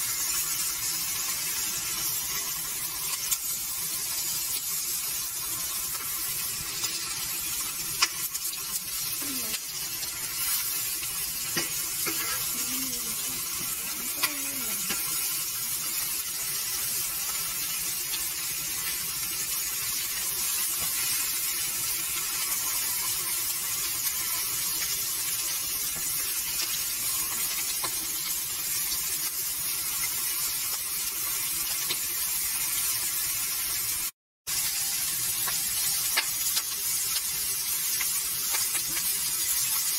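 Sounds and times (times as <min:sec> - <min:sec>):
fish frying in hot oil: 0:00.0 - 0:39.9.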